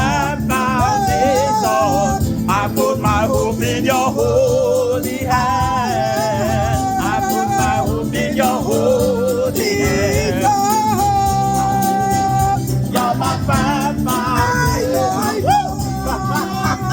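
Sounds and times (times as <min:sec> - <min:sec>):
gospel choir singing: 0:00.0 - 0:16.9
keyboard chords: 0:00.0 - 0:16.9.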